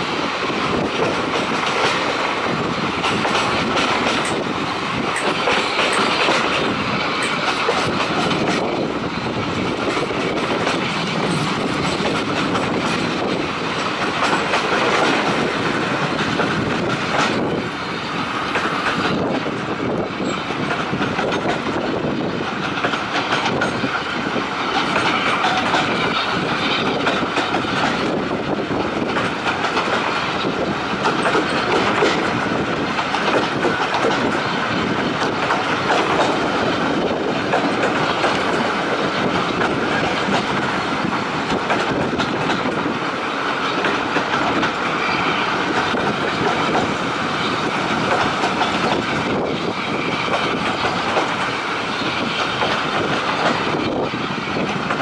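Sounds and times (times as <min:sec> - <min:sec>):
clickety-clack of rail joints: 0:00.0 - 0:55.0
train wheels rumbling on rails: 0:00.0 - 0:55.0.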